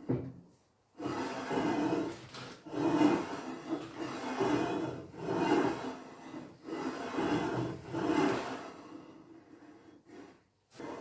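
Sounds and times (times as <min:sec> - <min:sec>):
metal spindle rubbing in bearing: 0:01.0 - 0:09.9.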